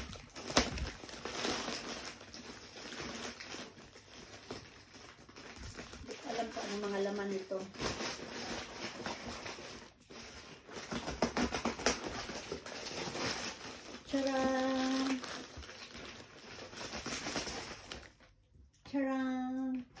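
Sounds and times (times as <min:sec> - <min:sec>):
plastic bag crinkling: 0:00.0 - 0:18.5.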